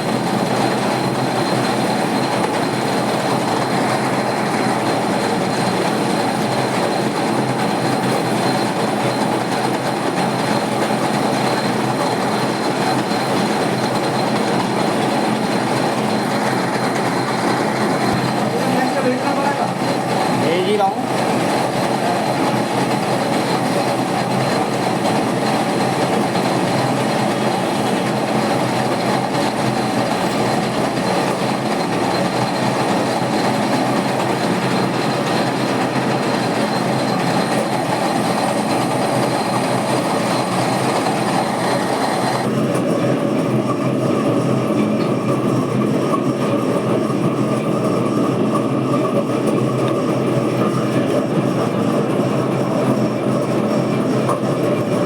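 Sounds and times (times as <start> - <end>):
machine tool rumble and clatter: 0.0 - 55.0.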